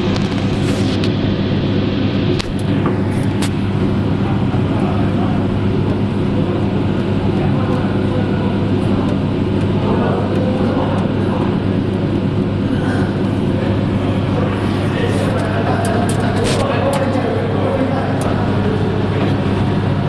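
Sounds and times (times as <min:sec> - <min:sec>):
electrical machinery humming: 0:00.0 - 0:20.0.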